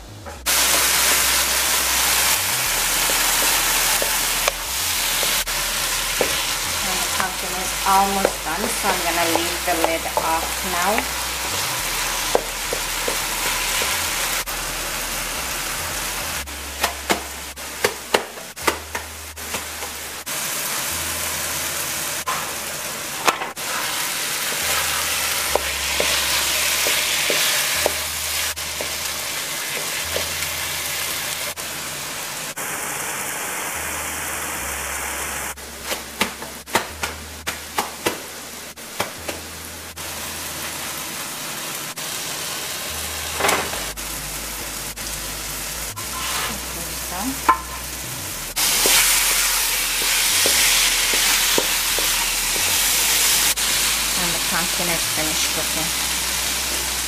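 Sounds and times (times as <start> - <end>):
food sizzling in a wok: 0.4 - 57.0.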